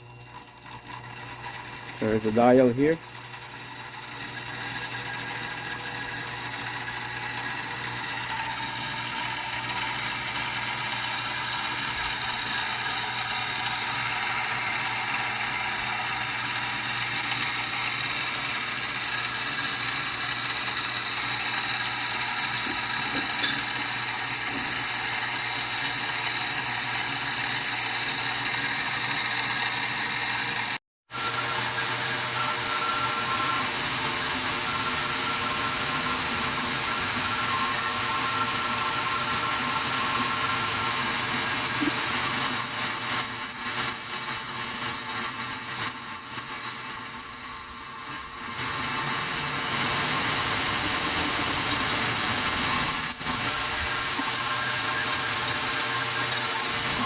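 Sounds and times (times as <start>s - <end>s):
milling machine whine and rattle: 0.0s - 57.0s.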